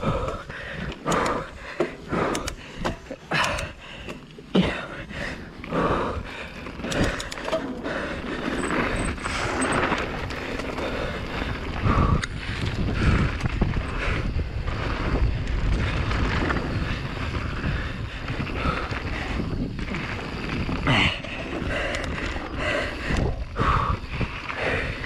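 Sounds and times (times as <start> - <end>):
wind buffeting camera: 0.0 - 4.3, 4.9 - 25.0
bike rattling clicks and knocks: 0.0 - 5.4, 6.2 - 23.4
bike tyre rumble: 0.0 - 25.0.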